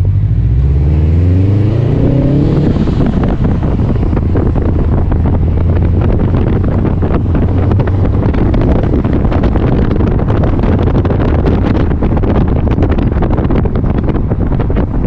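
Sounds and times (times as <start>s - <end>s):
car engine droning: 0.0s - 15.0s
road and wind noise: 0.0s - 15.0s.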